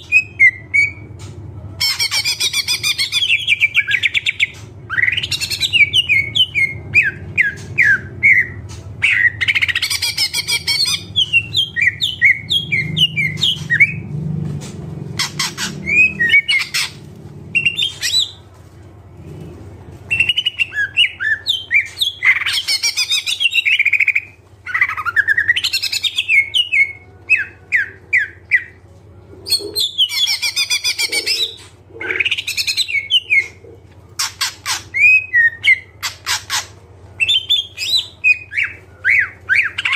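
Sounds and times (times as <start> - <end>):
bird singing varied chirps and trills: 1.8 - 14.2, 15.2 - 18.4, 20.1 - 28.8, 29.5 - 33.6, 34.2 - 39.9.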